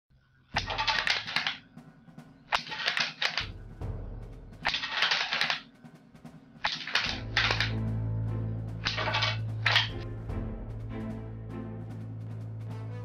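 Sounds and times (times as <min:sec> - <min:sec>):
background music with beat: 0:00.6 - 0:13.0.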